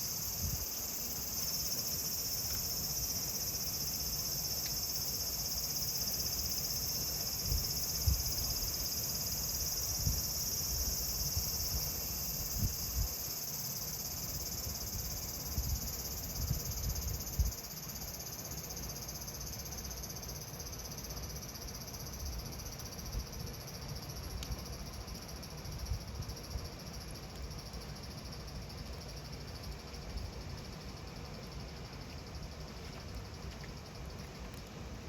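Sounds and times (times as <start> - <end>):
cicadas singing: 0.0 - 34.4.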